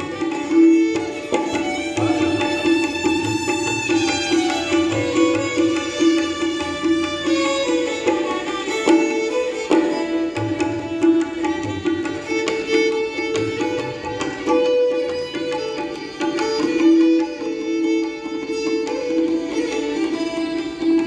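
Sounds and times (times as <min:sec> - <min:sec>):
plucked-string melody: 0:00.0 - 0:21.0.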